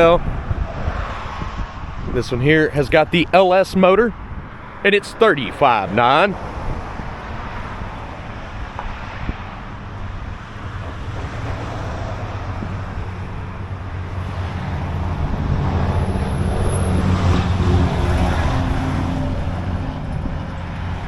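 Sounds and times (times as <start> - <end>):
wind on microphone: 0.0 - 4.8, 5.7 - 21.0.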